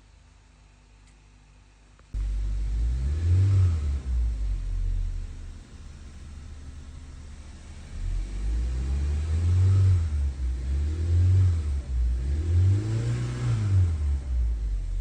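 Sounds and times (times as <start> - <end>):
car engine starting and surging: 2.2 - 15.0.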